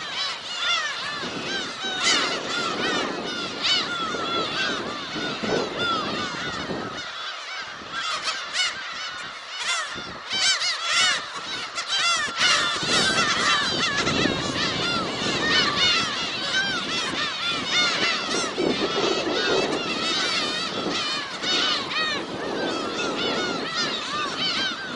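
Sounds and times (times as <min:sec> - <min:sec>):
gulls mewing calls: 0:00.0 - 0:24.9.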